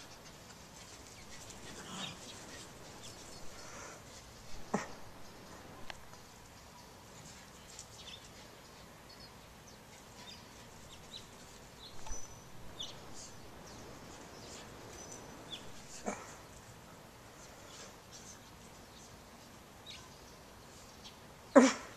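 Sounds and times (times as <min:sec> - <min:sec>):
small birds chirping: 0:00.0 - 0:21.6.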